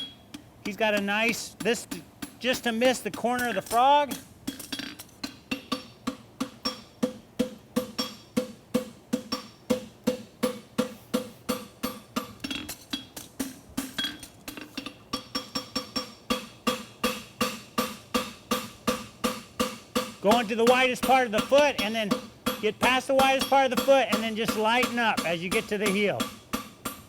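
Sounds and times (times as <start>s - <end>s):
hammer striking horseshoe on anvil: 0.9s - 27.0s.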